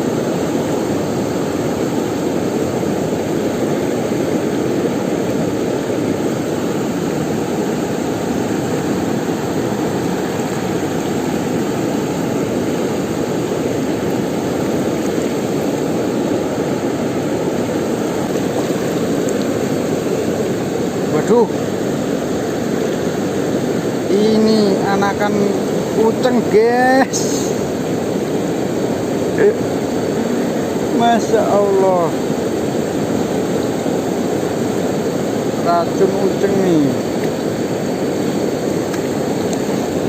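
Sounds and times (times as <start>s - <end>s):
fast-flowing river water rushing: 0.0s - 40.0s.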